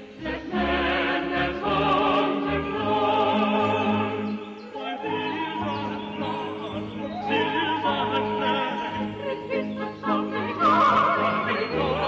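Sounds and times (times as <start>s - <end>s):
woman singing with vibrato: 0.4s - 12.0s.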